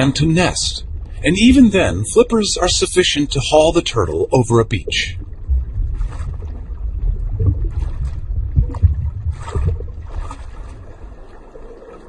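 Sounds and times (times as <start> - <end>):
soft water swishes: 0.0 - 12.0
underwater rumble of moving water: 0.0 - 12.0.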